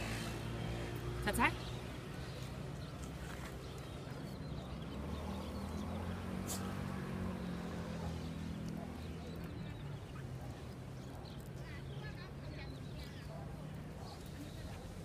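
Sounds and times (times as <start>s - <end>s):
vehicle engine passing: 0.0s - 12.4s.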